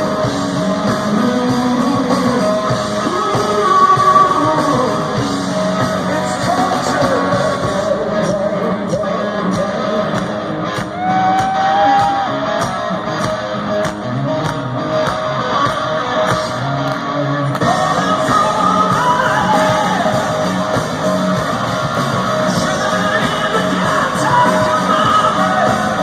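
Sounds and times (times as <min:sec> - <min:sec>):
bass and drums: 0:00.0 - 0:26.0
electric guitar lead: 0:00.0 - 0:26.0.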